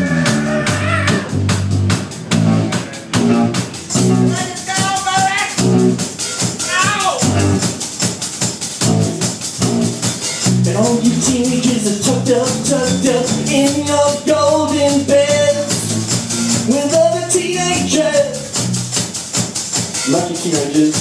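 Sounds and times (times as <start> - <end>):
live rock band playing: 0.0 - 21.0
shaker keeping time: 2.8 - 21.0.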